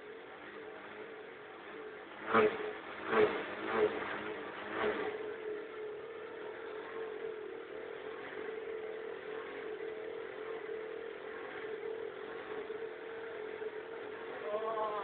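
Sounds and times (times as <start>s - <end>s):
scooter engine idling: 0.0s - 2.9s, 3.5s - 15.0s.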